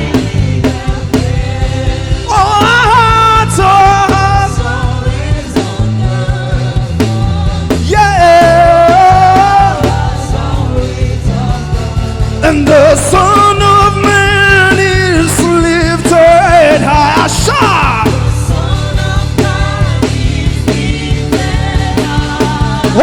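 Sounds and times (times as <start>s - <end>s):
gospel band with drums and bass: 0.0s - 23.0s.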